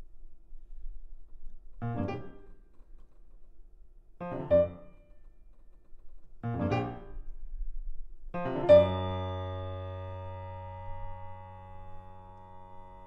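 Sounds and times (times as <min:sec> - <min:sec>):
grand piano: 0:01.7 - 0:03.5, 0:04.2 - 0:13.0.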